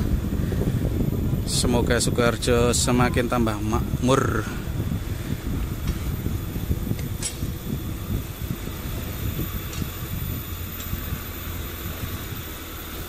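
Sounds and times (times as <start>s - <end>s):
tyres rumbling on concrete road: 0.0s - 13.0s
wind buffeting microphone: 0.0s - 13.0s.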